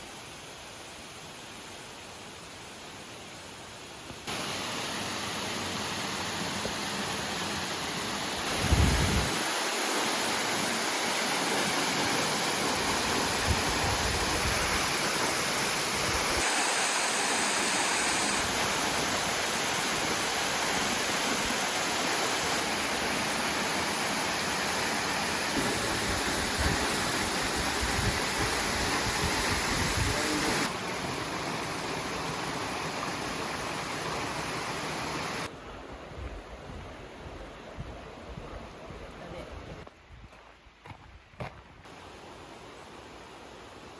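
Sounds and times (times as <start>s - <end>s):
rushing water: 0.0s - 35.9s.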